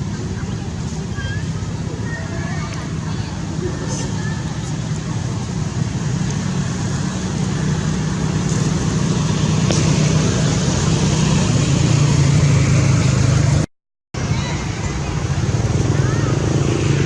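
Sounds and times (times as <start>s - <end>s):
engine humming low: 0.0s - 17.0s.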